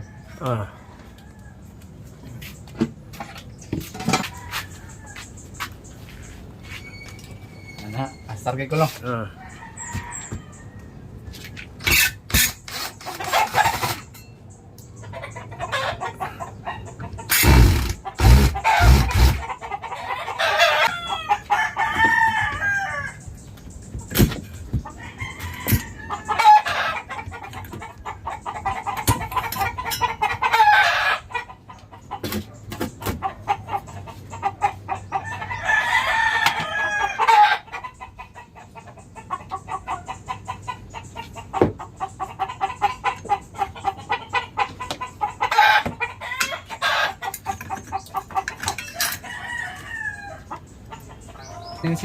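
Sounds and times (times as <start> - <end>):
roosters crowing: 0.0 - 3.1, 3.8 - 14.2, 15.1 - 23.4, 24.6 - 32.4, 33.1 - 38.2, 42.7 - 52.0
chickens clucking: 0.0 - 52.0.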